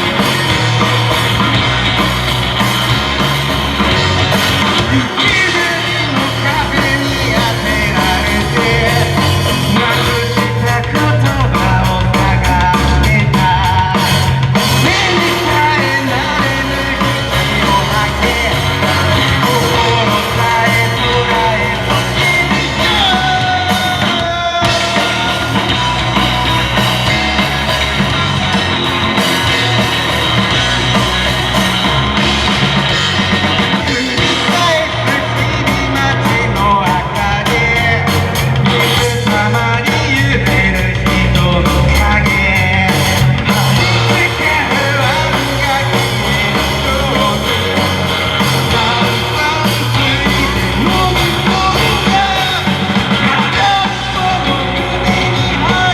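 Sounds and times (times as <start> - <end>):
drums: 0.0 - 55.9
rock band playing live: 0.0 - 55.9
person singing: 4.0 - 55.9.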